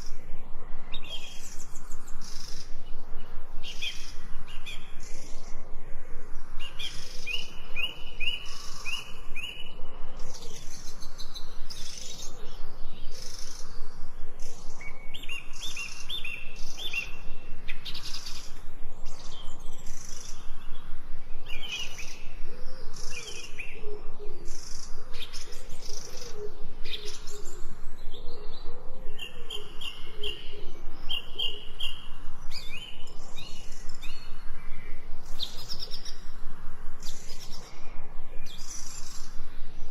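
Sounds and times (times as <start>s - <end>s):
birds chirping: 6.4s - 39.9s.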